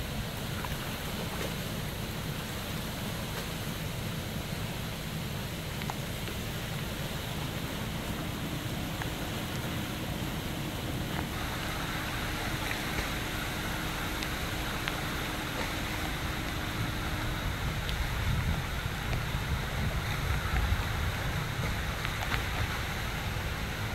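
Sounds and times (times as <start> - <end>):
water lapping across street: 0.0 - 23.9
wind rumble on microphone: 0.0 - 23.9.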